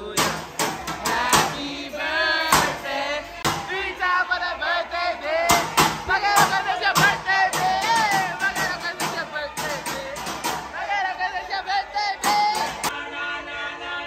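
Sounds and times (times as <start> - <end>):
diners singing and shouting: 0.0 - 14.0.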